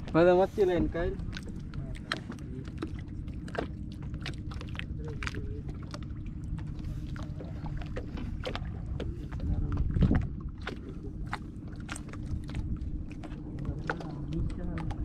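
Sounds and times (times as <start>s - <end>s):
low boat rumble: 0.0s - 15.0s.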